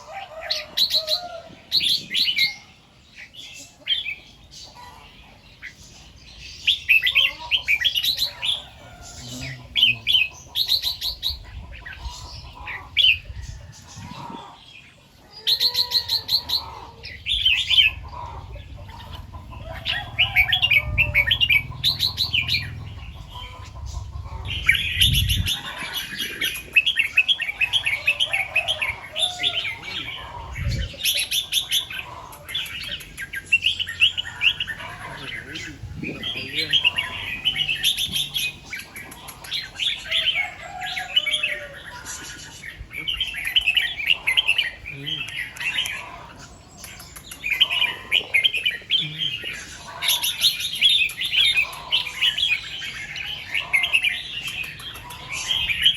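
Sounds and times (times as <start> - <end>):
bird singing warbled phrases: 0.0 - 55.9.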